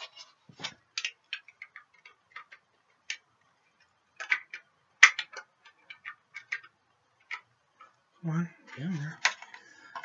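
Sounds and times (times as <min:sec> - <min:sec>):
plastic parts clicking: 0:00.0 - 0:08.0, 0:08.6 - 0:10.0.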